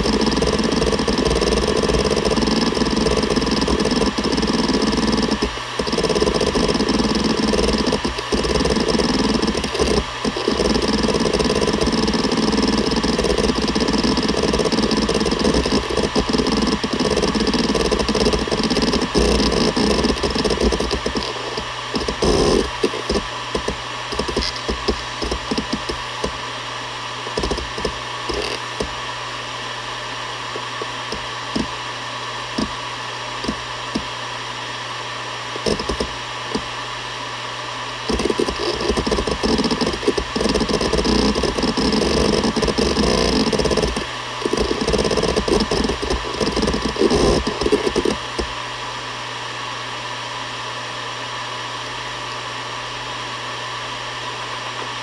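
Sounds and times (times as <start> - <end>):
hard drive seek clicks: 0.0 - 29.1, 30.4 - 34.2, 35.5 - 36.8, 38.0 - 48.6
hard drive spinning hum: 0.0 - 49.4.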